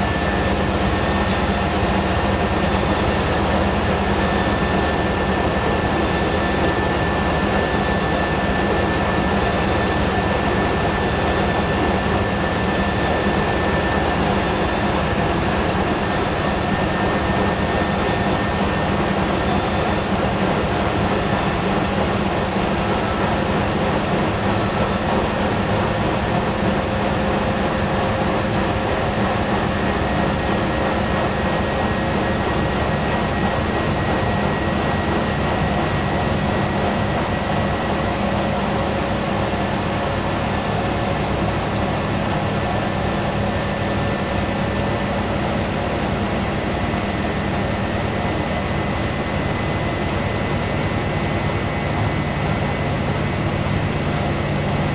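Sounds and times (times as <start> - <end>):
constant whine: 0.0 - 54.9
washing machine spinning: 0.0 - 54.9.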